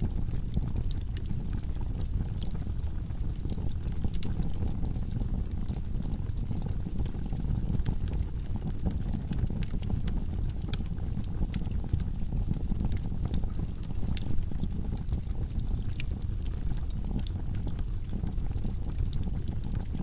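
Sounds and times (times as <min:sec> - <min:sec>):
fire crackles and pops: 0:00.0 - 0:20.0.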